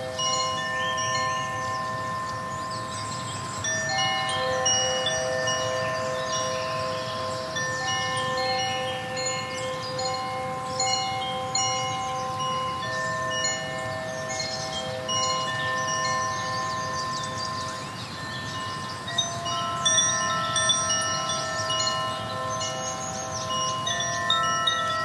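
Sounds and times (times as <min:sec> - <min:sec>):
chime tones ringing: 0:00.0 - 0:25.0.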